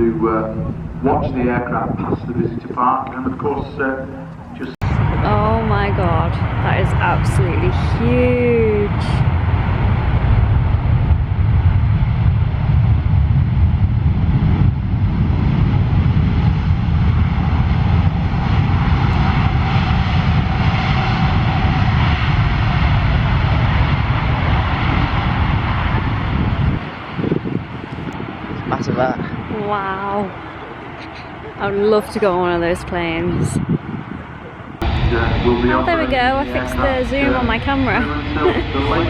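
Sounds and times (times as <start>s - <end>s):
faint jet whine: 0.0s - 39.0s
jet engines rumbling: 0.0s - 39.0s.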